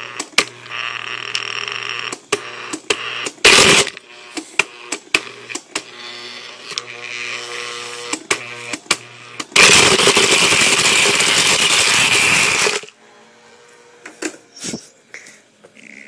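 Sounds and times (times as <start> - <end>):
blender motor churning cardboard: 0.0 - 14.8.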